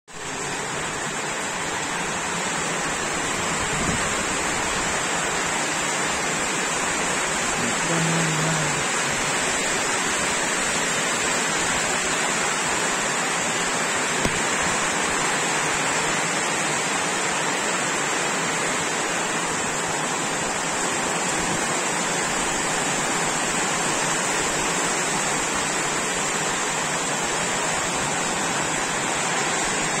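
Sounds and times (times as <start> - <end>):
rain hissing: 0.1 - 30.0.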